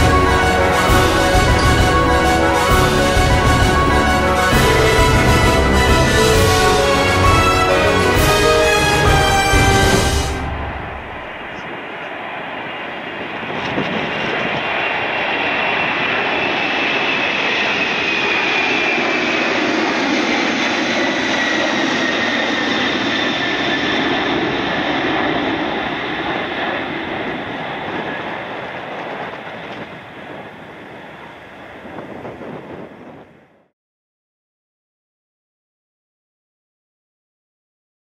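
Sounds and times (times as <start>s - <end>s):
jet engine roar with high whine: 0.0s - 33.7s.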